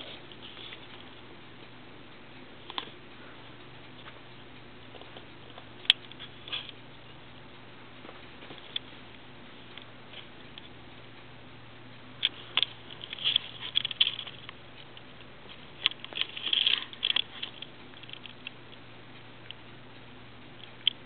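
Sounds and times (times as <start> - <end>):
small clicks and crackles: 0.0 - 21.0.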